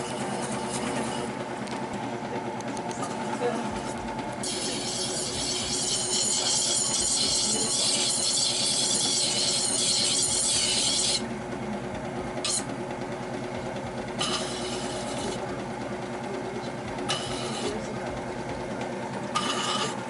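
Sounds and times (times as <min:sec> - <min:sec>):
knife grinding on sharpening wheel: 0:00.0 - 0:01.5, 0:03.0 - 0:20.0
motor humming: 0:00.0 - 0:20.0.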